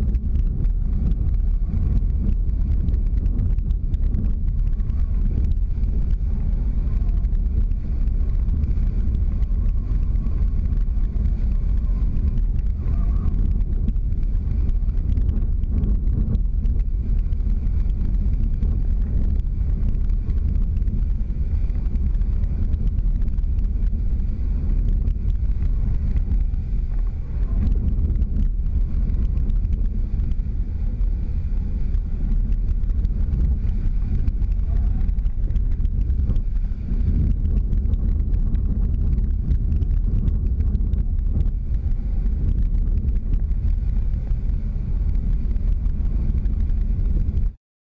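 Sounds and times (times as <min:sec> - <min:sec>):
wind buffeting microphone: 0:00.0 - 0:47.6.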